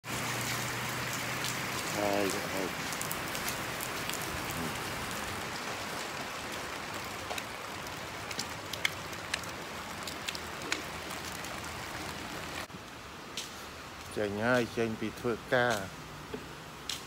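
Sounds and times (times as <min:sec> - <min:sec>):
heavy rain on cardboard: 0:00.0 - 0:17.0.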